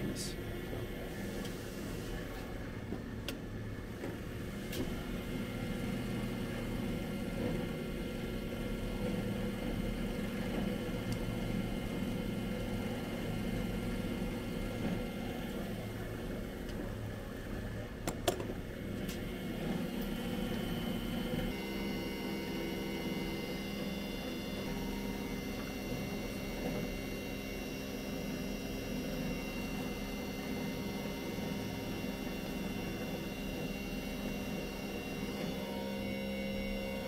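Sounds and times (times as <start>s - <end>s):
milling machine humming: 0.0s - 37.0s.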